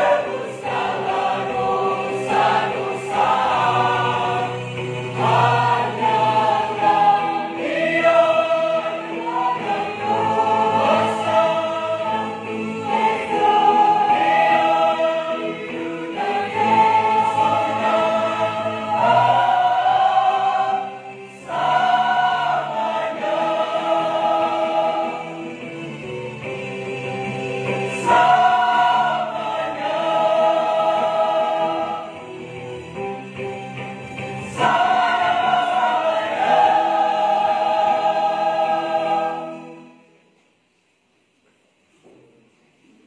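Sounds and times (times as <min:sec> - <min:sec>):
choir singing a hymn: 0:00.0 - 0:40.2.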